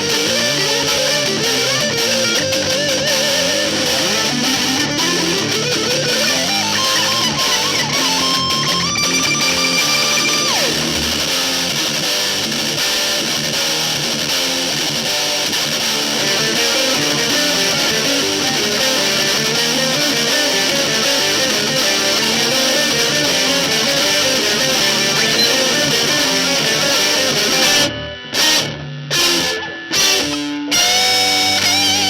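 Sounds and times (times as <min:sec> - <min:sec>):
distorted rhythm guitar: 0:00.0 - 0:32.0
lead electric guitar melody: 0:00.0 - 0:32.0.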